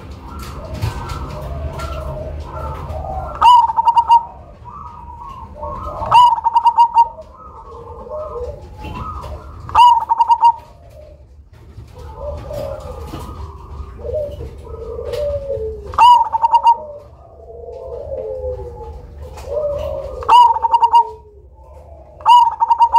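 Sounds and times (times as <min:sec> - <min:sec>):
birds cooing and chirping: 0:00.0 - 0:22.9
dove rolling coo song: 0:00.0 - 0:22.9.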